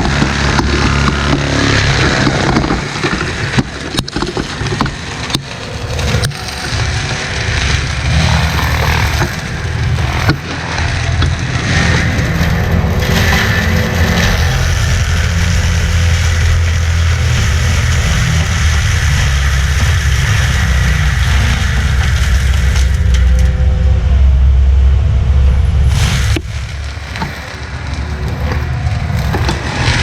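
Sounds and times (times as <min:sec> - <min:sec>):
sharp crack: 0:00.0 - 0:23.6, 0:25.9 - 0:30.0
heavy diesel machinery running: 0:00.0 - 0:30.0.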